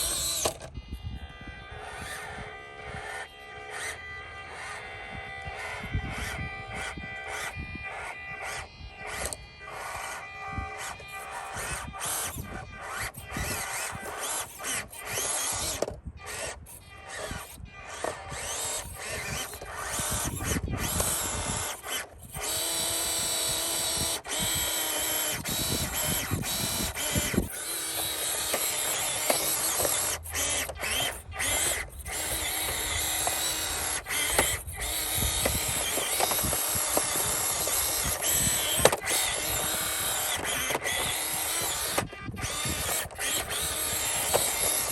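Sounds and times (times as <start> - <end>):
small electric motor whining: 0.0 - 44.9.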